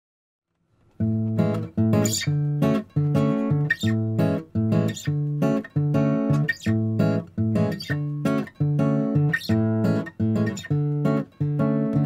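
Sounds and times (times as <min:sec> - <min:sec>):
acoustic guitar strumming: 0:01.0 - 0:12.0.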